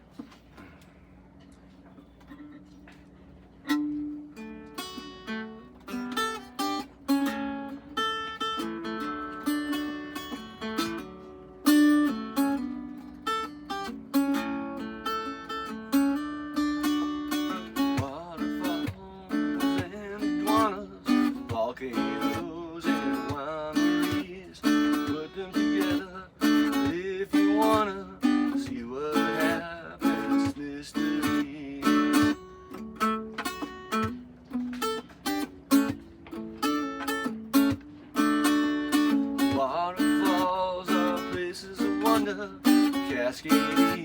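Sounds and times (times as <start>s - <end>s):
acoustic guitar music: 0.0s - 44.0s.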